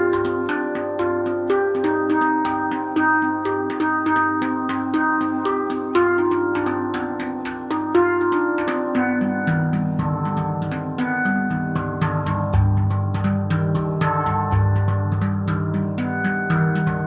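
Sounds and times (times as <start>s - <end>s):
deep handpan bass notes: 0.0s - 17.0s
handpan notes: 0.0s - 17.0s.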